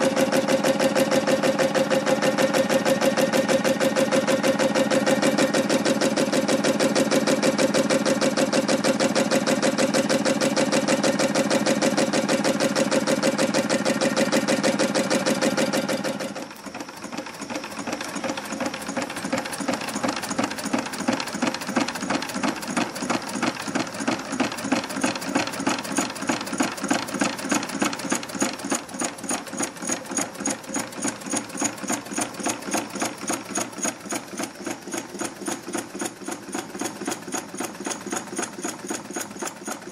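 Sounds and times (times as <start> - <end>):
engine linkage clattering: 0.0 - 39.9.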